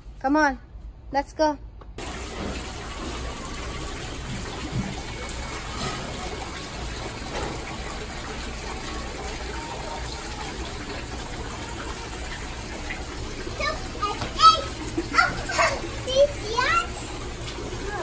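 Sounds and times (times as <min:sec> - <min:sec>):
fountain water trickling into pond: 0:02.0 - 0:18.0.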